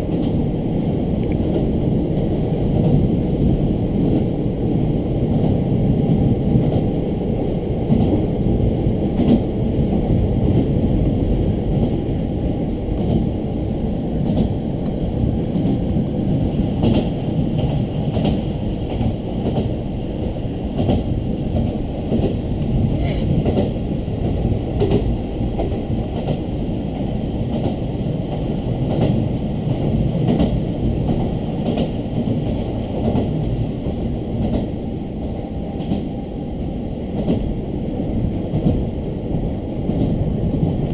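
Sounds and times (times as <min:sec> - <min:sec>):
railcar engine and wheels rumbling: 0:00.0 - 0:40.9.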